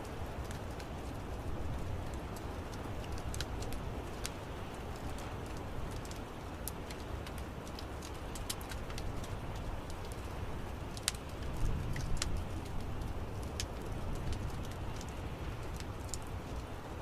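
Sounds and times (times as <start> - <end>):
low rumble of flames: 0.0 - 17.0
wood fire crackling: 0.0 - 17.0
sharp pops and snaps: 2.0 - 16.7.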